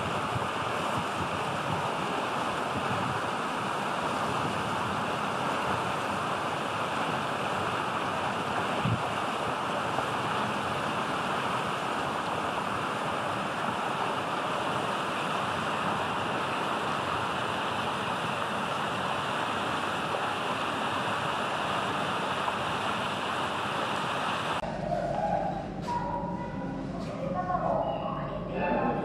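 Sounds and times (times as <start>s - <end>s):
rushing outdoor background noise: 0.0s - 29.0s.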